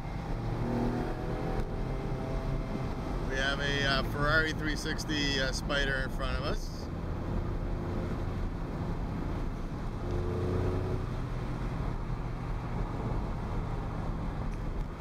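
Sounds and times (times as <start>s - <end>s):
car cabin road drone: 0.0s - 15.0s.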